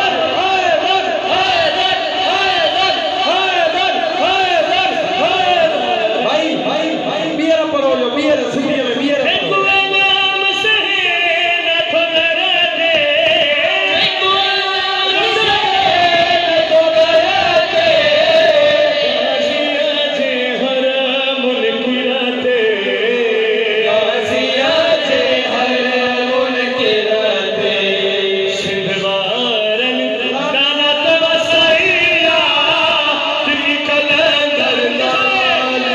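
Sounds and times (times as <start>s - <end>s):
men chanting over a pa: 0.0s - 7.8s, 9.4s - 35.9s.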